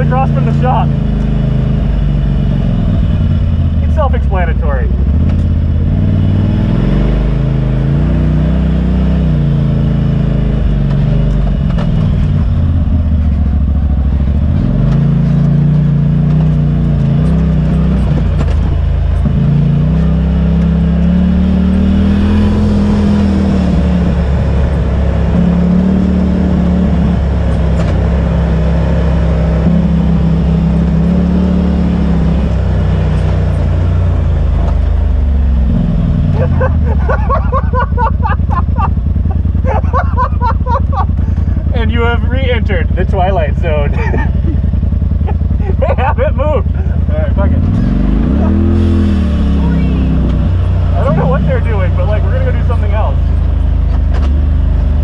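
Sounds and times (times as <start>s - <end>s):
drivetrain and tyre rumble: 0.0s - 55.0s
vehicle engine revving: 0.0s - 55.0s.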